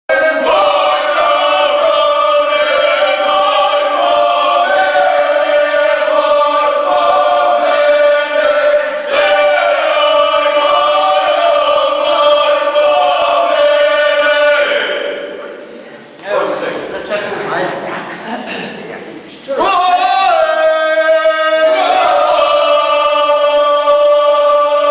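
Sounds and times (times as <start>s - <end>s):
group singing unaccompanied: 0.1s - 15.8s, 19.6s - 24.9s.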